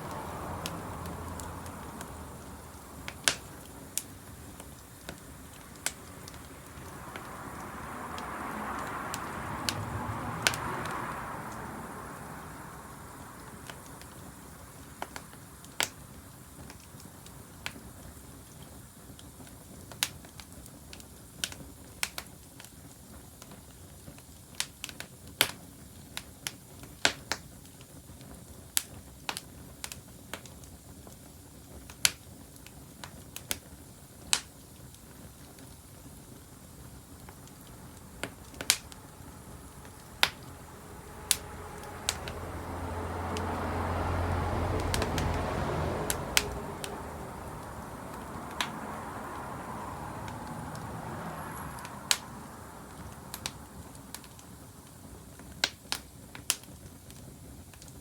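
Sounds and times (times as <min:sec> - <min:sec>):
bonfire crackling and popping: 0:00.0 - 0:58.0
low steady fire hiss: 0:00.0 - 0:58.0.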